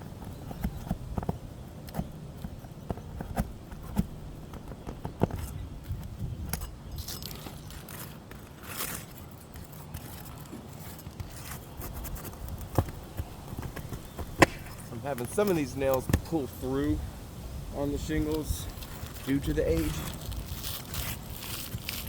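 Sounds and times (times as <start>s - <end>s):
tool scraping shingles: 0.0s - 17.0s, 17.8s - 22.0s.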